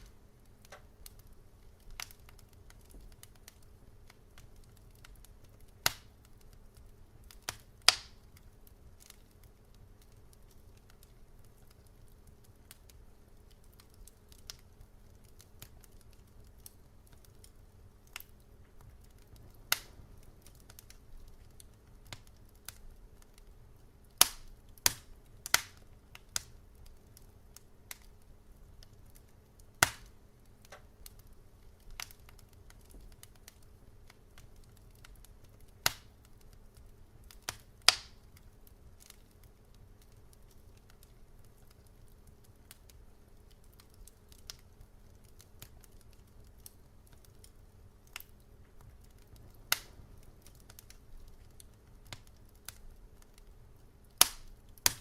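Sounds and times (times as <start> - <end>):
faint low rumble: 0.0 - 54.9
wood fire crackling and popping: 0.0 - 55.0.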